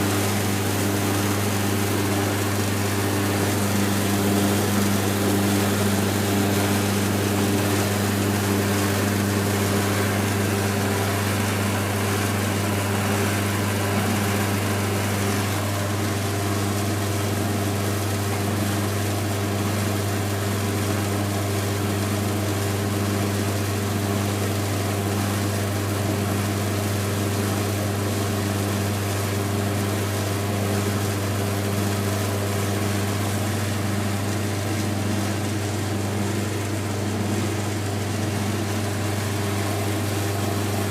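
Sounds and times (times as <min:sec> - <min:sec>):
laundry machine motor humming: 0:00.0 - 0:40.9.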